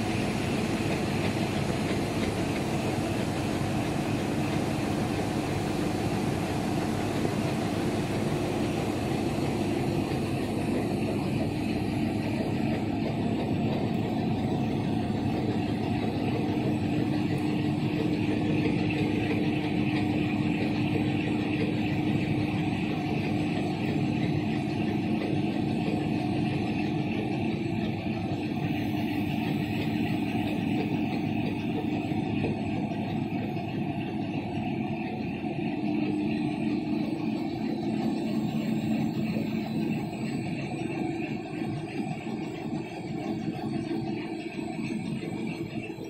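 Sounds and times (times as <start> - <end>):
printing machine running: 0.0 - 46.0.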